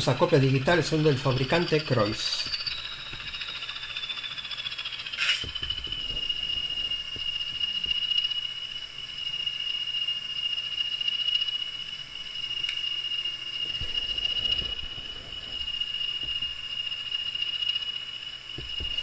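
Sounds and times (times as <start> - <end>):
high electronic whine: 0.0 - 19.0.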